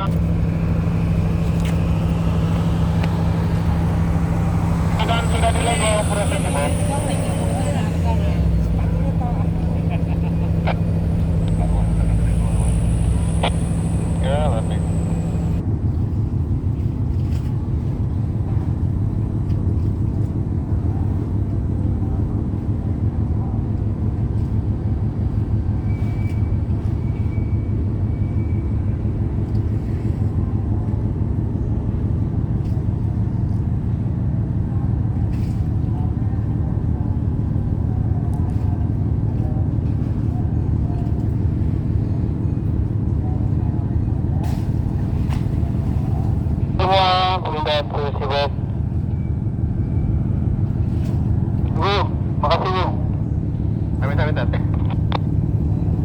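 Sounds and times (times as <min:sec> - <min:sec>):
large diesel engines droning: 0:00.0 - 0:56.0.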